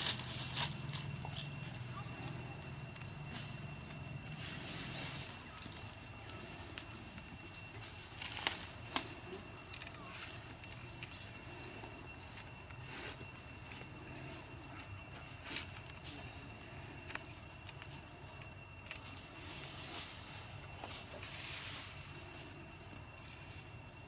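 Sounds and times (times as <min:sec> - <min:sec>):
high-pitched whine: 0:00.0 - 0:24.0
bird chirping: 0:00.4 - 0:20.8.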